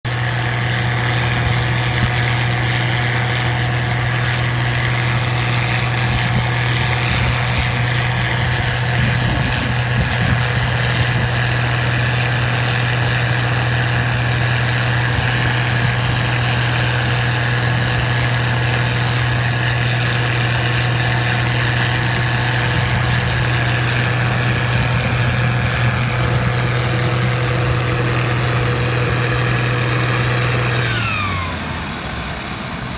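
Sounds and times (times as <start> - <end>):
combine harvester drone: 0.0 - 32.9
high machine whine: 0.1 - 32.9.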